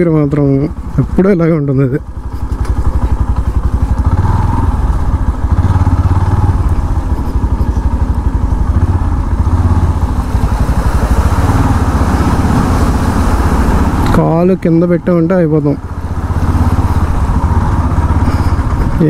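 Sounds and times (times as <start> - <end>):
motorcycle engine throbbing: 0.0 - 19.0.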